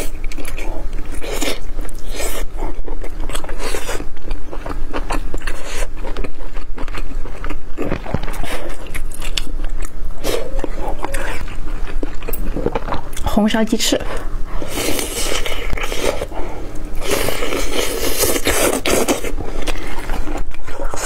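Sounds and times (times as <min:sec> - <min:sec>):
wet biting and chewing: 0:00.0 - 0:13.3, 0:14.2 - 0:21.0.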